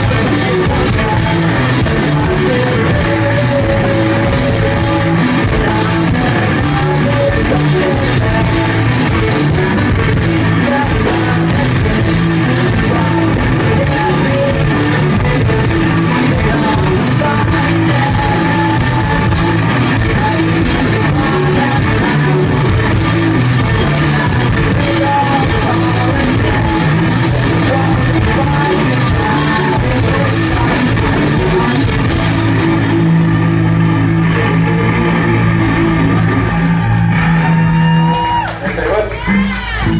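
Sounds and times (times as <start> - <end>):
person singing: 0.0 - 38.1
rock band playing: 0.0 - 39.9.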